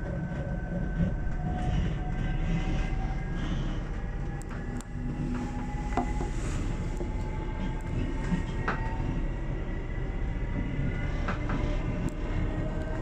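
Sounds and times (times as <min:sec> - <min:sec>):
faint steady whines: 0:00.0 - 0:13.0
train wheels rumbling on track: 0:00.0 - 0:13.0.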